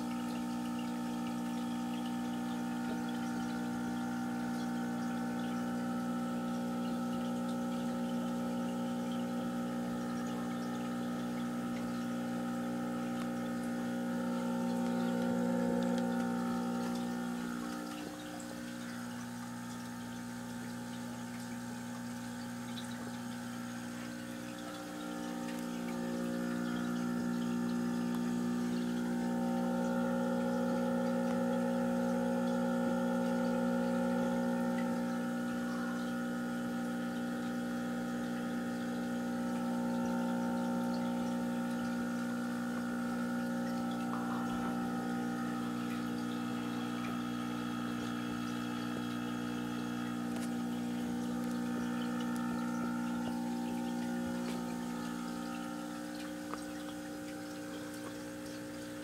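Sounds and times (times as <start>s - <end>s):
aquarium pump humming: 0.0s - 59.0s
water bubbling: 0.0s - 59.0s.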